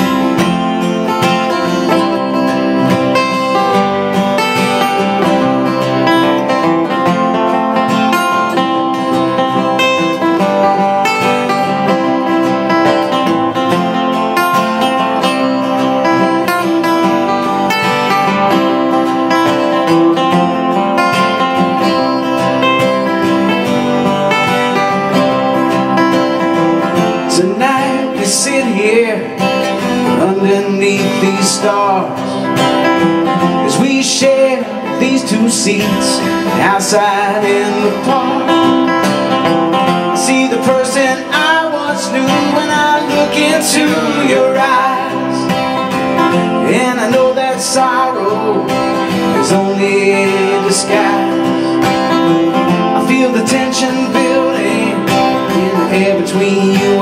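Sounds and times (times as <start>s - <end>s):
two acoustic guitars playing: 0.0s - 57.0s.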